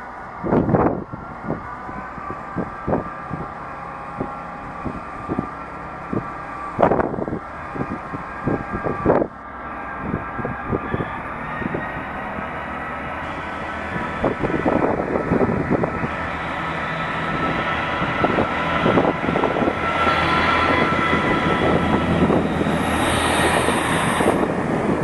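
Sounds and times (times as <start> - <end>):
diesel train engines running: 0.0 - 25.0.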